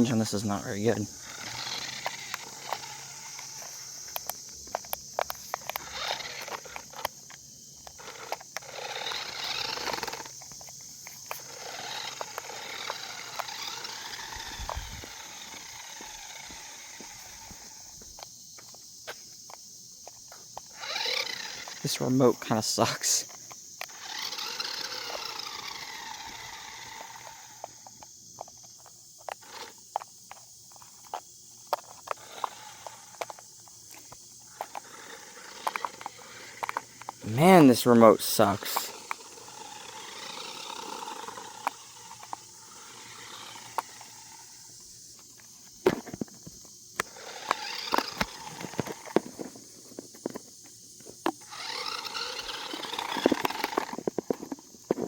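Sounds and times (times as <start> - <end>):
toy car motor whining: 0.0 - 55.0.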